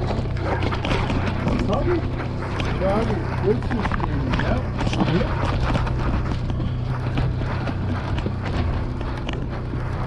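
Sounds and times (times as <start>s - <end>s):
boat engine humming: 0.0s - 10.0s
wind on microphone: 0.0s - 10.0s.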